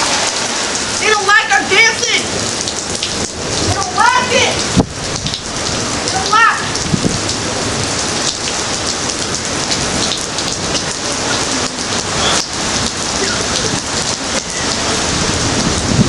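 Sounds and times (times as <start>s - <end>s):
steady rain falling: 0.0s - 16.0s
sharp taps of raindrops: 1.9s - 14.9s, 15.6s - 16.0s.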